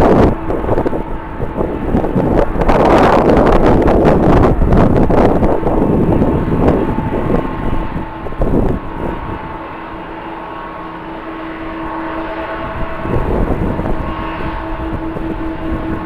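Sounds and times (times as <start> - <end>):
jet engines whining: 0.0 - 16.0
wind buffeting microphone: 0.0 - 16.0.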